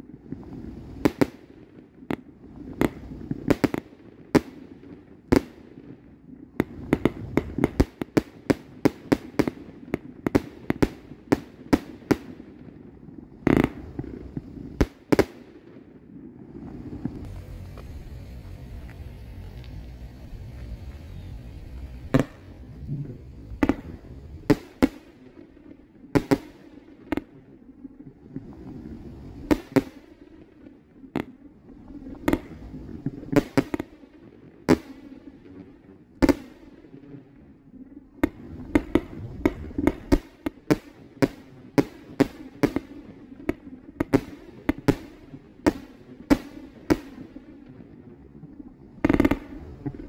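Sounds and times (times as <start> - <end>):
firework shots: 0.4 - 12.8, 13.4 - 27.5, 28.8 - 31.4, 32.1 - 34.1, 34.7 - 37.2, 37.8 - 47.7, 49.0 - 50.0.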